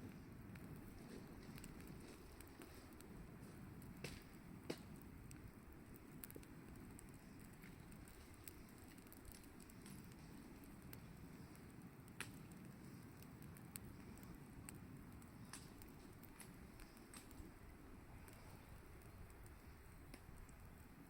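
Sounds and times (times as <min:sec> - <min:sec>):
fire crackles and pops: 0:00.0 - 0:21.0
wood fire burning: 0:00.0 - 0:21.0.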